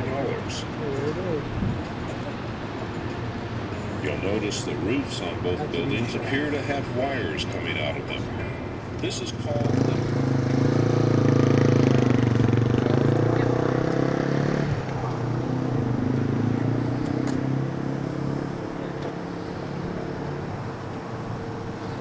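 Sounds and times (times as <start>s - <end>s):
outdoor background noise: 0.0s - 22.0s
vehicle engine running: 0.0s - 22.0s.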